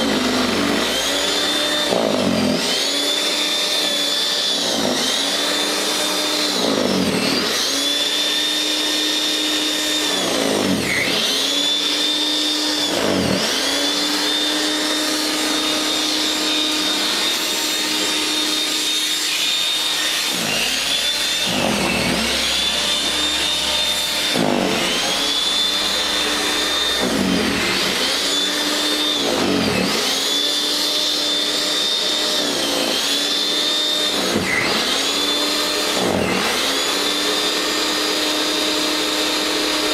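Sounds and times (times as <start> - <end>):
electric snow thrower whining: 0.0 - 39.9.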